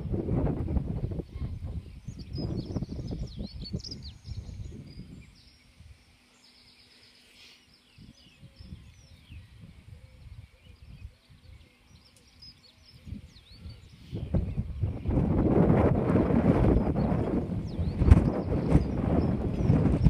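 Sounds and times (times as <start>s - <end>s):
wind gusting on microphone: 0.0s - 6.1s, 7.8s - 20.0s
small birds chirping: 1.0s - 20.0s.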